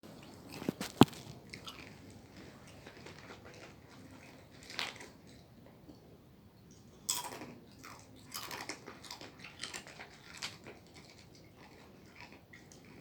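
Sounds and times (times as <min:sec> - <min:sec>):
person chewing: 0:00.2 - 0:05.2, 0:06.7 - 0:13.0.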